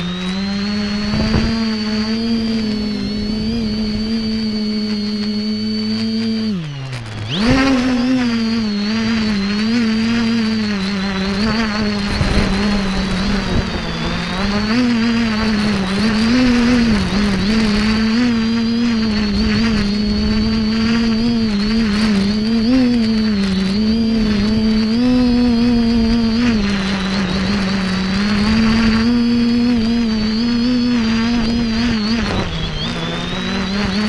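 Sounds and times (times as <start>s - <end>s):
drone propellers whining: 0.0s - 34.0s
wind rumble on microphone: 0.0s - 34.0s.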